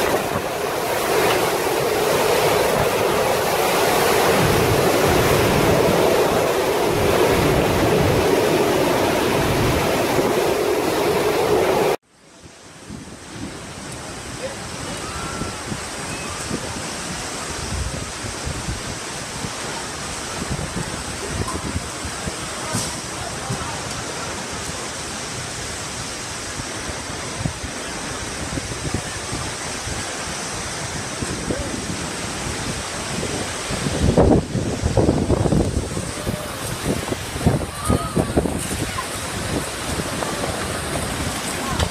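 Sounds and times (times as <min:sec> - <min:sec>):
strong wind: 0:00.0 - 0:41.9
torrential rain: 0:00.0 - 0:41.9.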